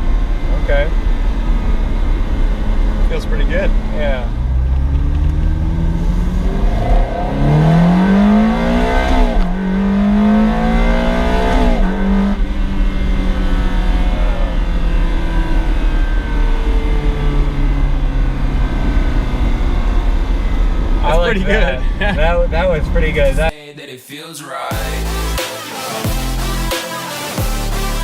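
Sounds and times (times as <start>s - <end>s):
car engine accelerating: 0.0s - 23.5s.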